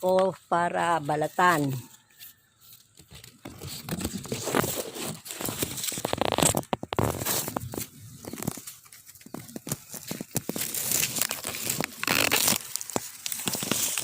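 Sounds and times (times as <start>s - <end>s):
leaves and branches rustling: 0.0s - 14.0s.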